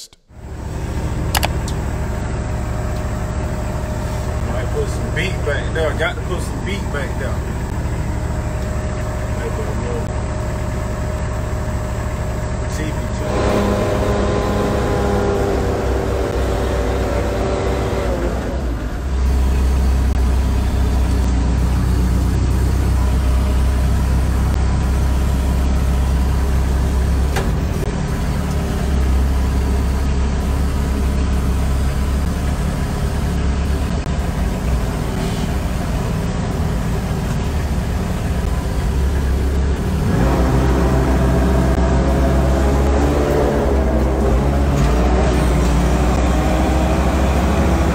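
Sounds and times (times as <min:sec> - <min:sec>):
vehicle engine rumbling: 0:00.0 - 0:47.9
whining tone: 0:00.0 - 0:47.9.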